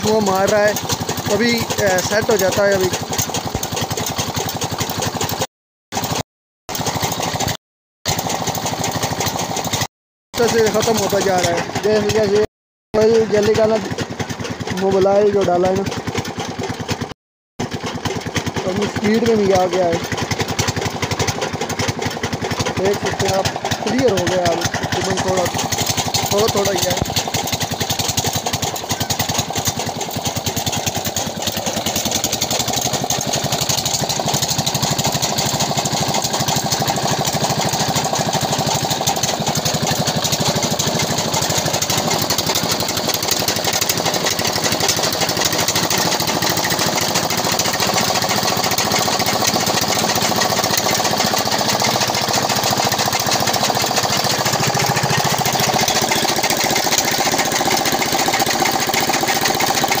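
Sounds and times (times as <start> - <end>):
diesel engine knocking: 0.0 - 60.0.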